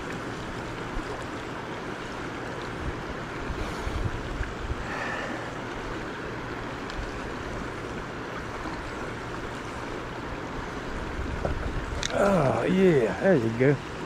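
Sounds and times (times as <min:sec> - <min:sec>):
river water flowing over rocks: 0:00.0 - 0:14.0.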